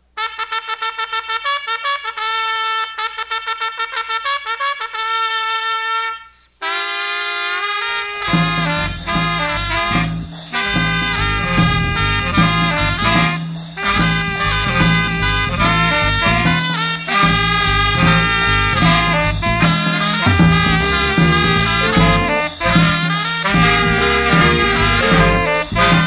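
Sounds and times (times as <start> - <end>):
brass band swinging groove: 0.2 - 6.0, 6.6 - 26.0
solo horn playing: 0.2 - 26.0.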